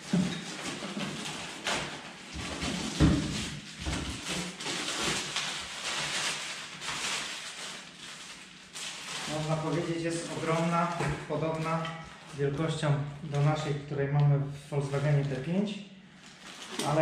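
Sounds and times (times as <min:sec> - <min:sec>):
packaging rustling and crinkling: 0:00.0 - 0:13.7, 0:14.7 - 0:17.0.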